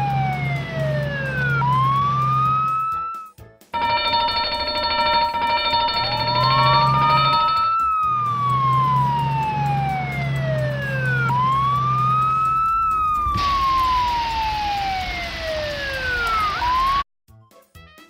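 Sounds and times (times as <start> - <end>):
fire truck siren wailing: 0.0 - 17.0.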